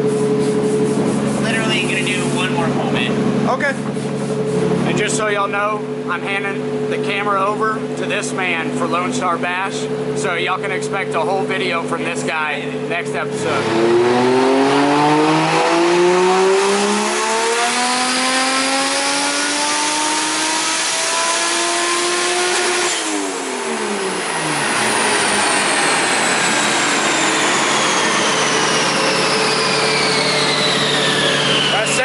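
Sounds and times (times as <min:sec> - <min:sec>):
high turbo whine: 0:00.0 - 0:32.0
turbo engine revving: 0:00.0 - 0:32.0.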